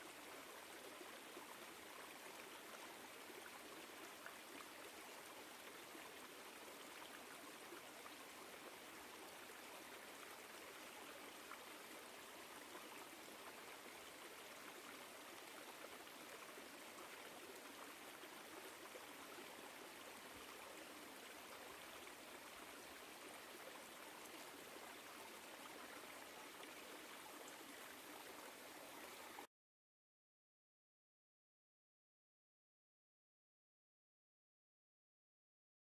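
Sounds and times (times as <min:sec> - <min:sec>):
stream flowing: 0:00.0 - 0:29.5.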